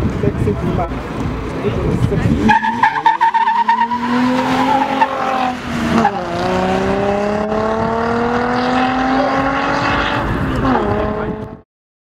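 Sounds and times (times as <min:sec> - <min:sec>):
car engine accelerating hard: 0:00.7 - 0:11.6.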